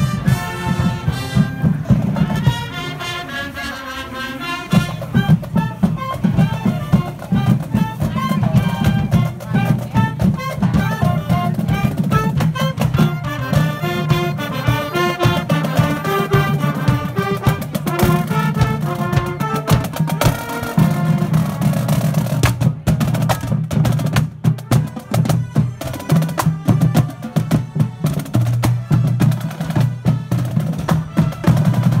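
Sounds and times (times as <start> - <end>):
snare and bass drum cadence: 0.0 - 3.0, 4.7 - 32.0
saxophones and brass melody: 0.0 - 22.3, 24.4 - 32.0.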